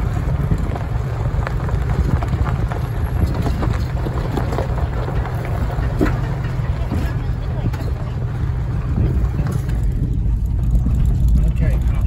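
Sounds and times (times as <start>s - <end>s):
gravel popping under tyres: 0.0s - 12.0s
vehicle rumbling: 0.0s - 12.0s.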